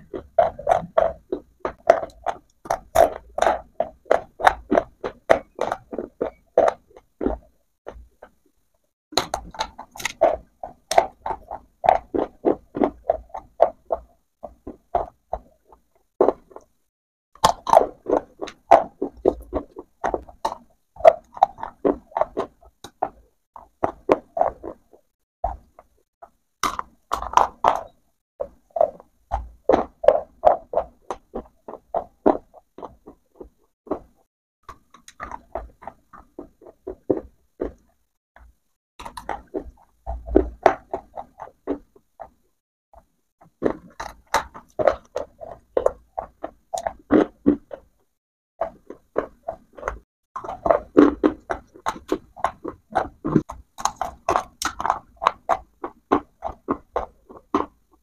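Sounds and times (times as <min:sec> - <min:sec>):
crunching and chewing: 0:00.0 - 0:08.5, 0:09.2 - 0:16.8, 0:17.4 - 0:42.4, 0:43.0 - 0:58.0.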